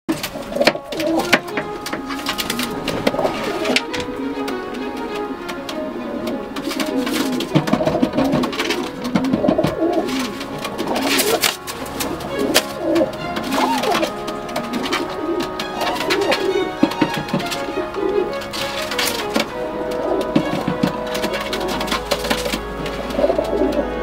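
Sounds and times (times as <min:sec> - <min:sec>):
pigeon wing claps: 0:00.1 - 0:23.9
background music: 0:00.1 - 0:24.0
pigeon cooing: 0:00.2 - 0:24.0.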